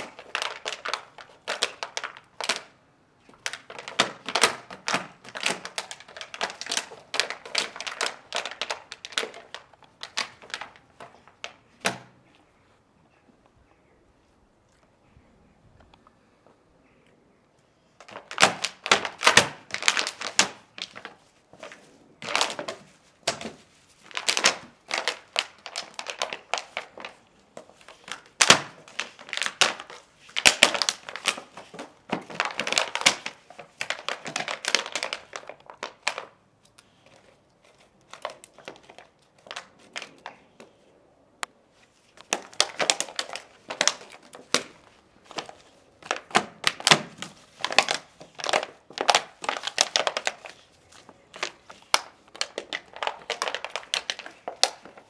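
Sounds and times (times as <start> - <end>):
plastic bottle crackling and crunching: 0.0 - 12.1, 18.0 - 40.7, 41.4 - 55.0.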